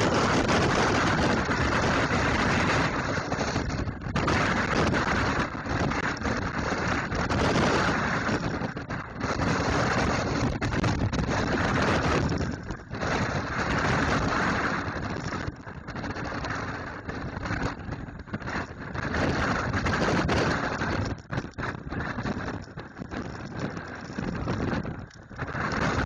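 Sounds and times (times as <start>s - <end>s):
wind and rain on microphone: 0.0s - 26.0s.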